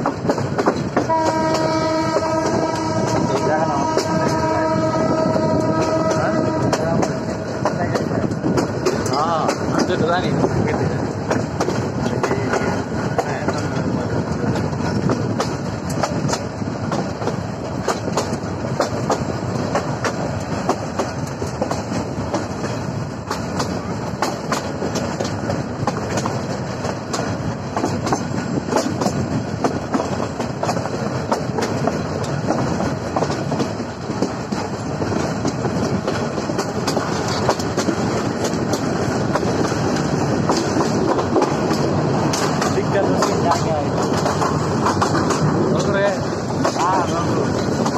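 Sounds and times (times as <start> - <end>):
train rumbling on track: 0.0 - 47.9
wheels clicking over rail joints: 0.0 - 47.9.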